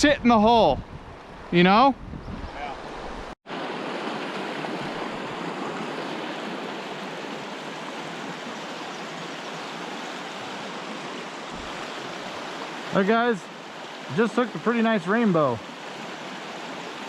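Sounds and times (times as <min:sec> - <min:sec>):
stream rushing: 0:02.5 - 0:17.0.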